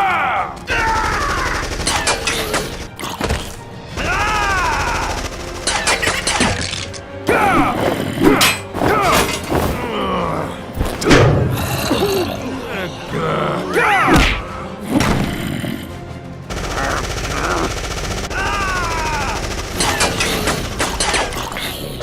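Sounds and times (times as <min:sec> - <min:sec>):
dramatic action score: 0:00.0 - 0:22.0.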